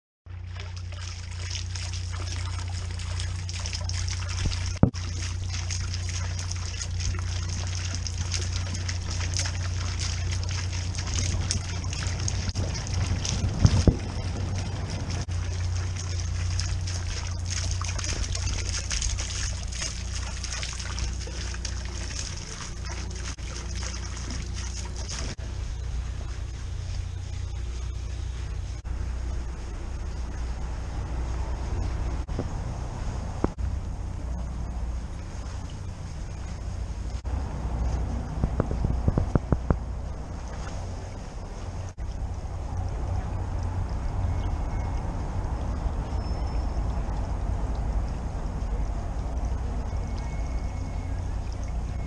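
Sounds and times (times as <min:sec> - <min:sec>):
fountain splashing and trickling: 0:00.3 - 0:52.0
steady low rumble: 0:00.3 - 0:52.0.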